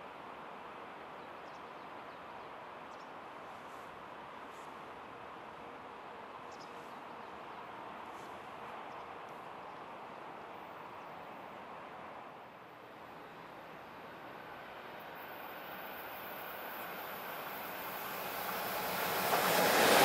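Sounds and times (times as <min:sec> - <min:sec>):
faint outdoor rushing noise: 0:00.0 - 0:20.0.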